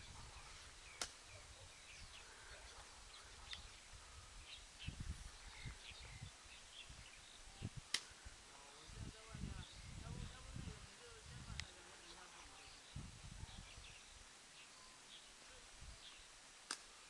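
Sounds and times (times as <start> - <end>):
low wind rumble: 0.0 - 14.2
small birds chirping: 0.0 - 17.0.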